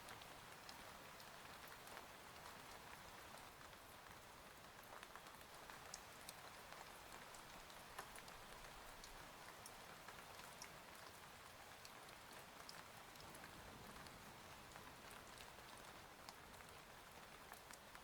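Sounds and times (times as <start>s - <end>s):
faint steady rain: 0.0s - 18.0s.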